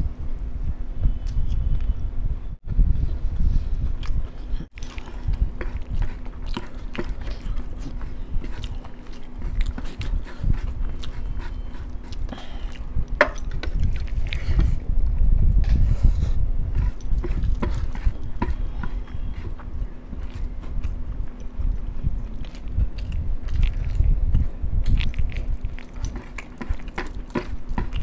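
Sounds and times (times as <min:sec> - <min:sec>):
chewing rice: 0:03.8 - 0:15.3, 0:16.7 - 0:28.0.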